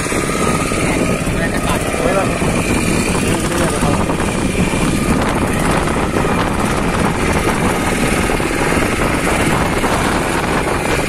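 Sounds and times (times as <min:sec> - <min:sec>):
boat moving across choppy water: 0:00.0 - 0:11.0
motorboat engine drone: 0:00.0 - 0:11.0.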